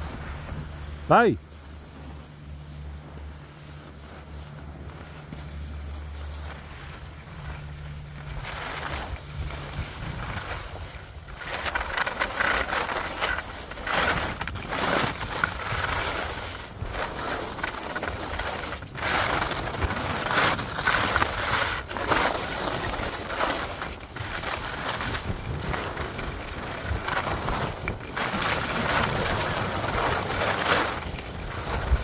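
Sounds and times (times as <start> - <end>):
skis carving over snow: 0.0 - 32.0.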